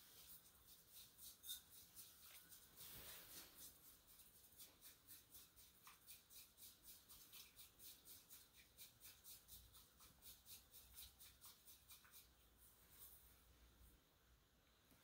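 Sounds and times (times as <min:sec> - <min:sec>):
tea whisk brushing in bowl: 0:00.0 - 0:13.5.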